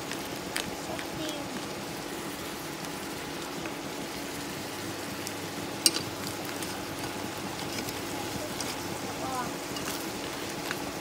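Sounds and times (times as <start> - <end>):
sauce simmering with hiss: 0.0 - 11.0.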